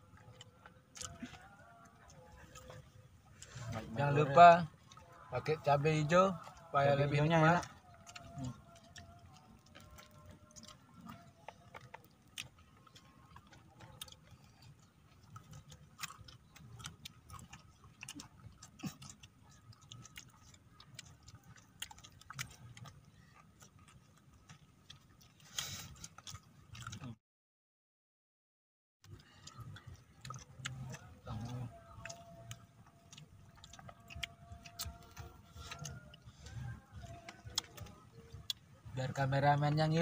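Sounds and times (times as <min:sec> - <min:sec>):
crunching raw vegetables: 0:00.0 - 0:27.1, 0:29.0 - 0:40.0.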